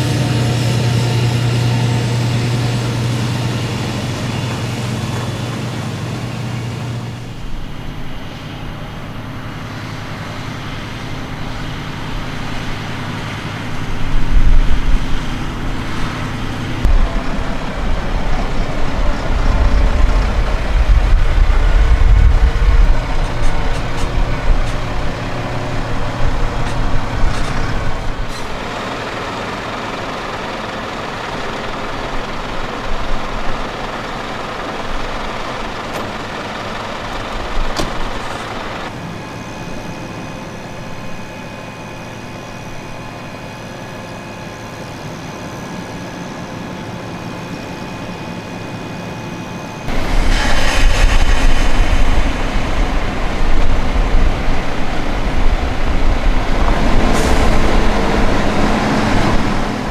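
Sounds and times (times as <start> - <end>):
tractor engine rumble: 0.0 - 59.9.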